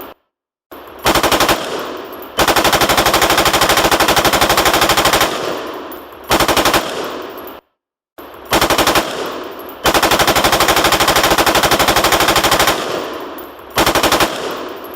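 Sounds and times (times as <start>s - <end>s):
automatic gunfire bursts: 1.0s - 7.4s, 8.5s - 14.9s.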